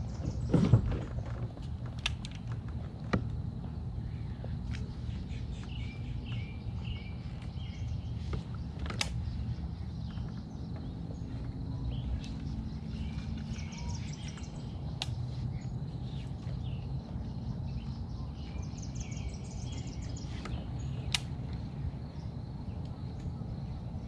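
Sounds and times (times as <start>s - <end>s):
birds chirping: 0.0s - 24.0s
low background rumble: 0.0s - 24.0s.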